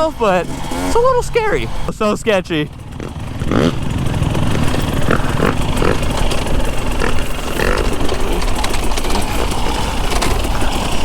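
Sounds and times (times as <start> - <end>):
two-stroke motorbike engine running: 0.0 - 11.0.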